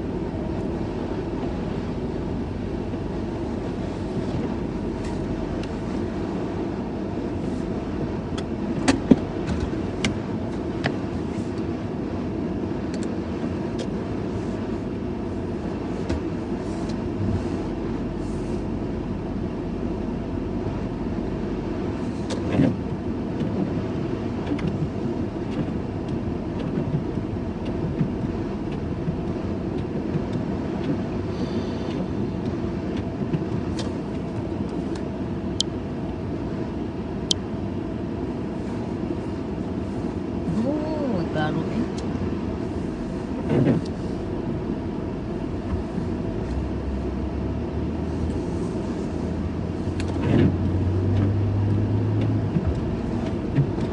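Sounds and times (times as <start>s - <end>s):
vehicle engine rumble: 0.0s - 53.9s.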